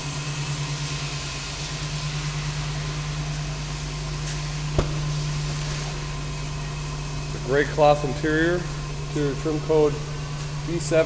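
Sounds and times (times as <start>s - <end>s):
car engine idling: 0.5s - 11.0s.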